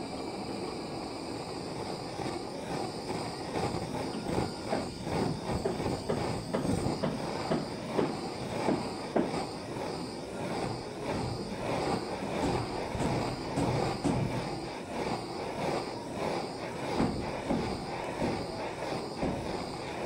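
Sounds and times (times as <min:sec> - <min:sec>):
butane torch burning: 0:00.0 - 0:20.0.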